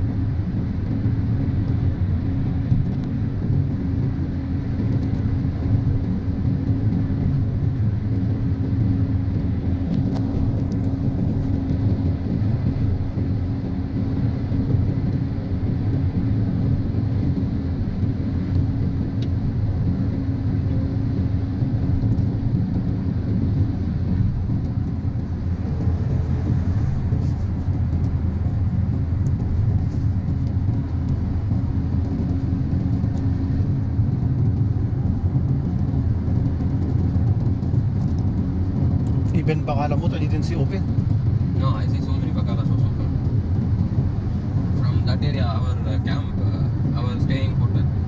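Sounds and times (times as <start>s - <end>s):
car cabin road and engine rumble: 0.0s - 48.0s.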